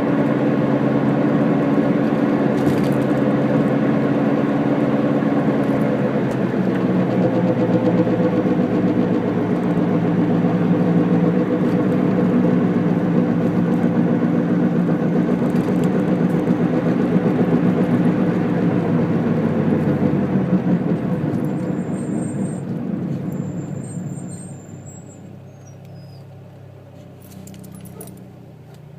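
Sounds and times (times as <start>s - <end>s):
car road noise: 0.0s - 28.9s.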